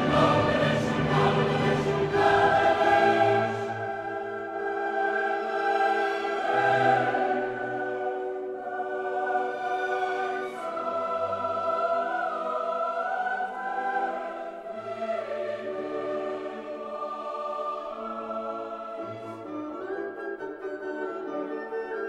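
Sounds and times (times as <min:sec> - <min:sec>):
choir singing long held notes: 0:00.0 - 0:20.6.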